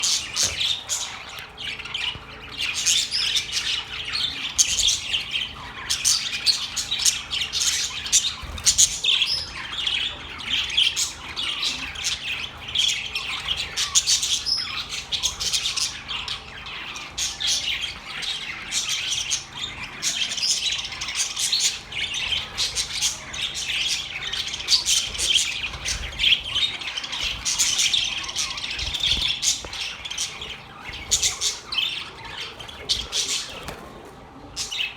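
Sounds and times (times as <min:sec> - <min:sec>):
birds chirping and squawking: 0:00.0 - 0:34.9.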